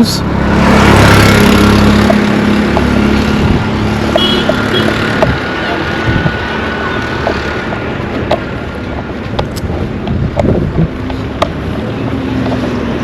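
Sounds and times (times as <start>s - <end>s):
wind and road noise: 0.0s - 13.0s
vehicle engine running: 0.4s - 13.0s.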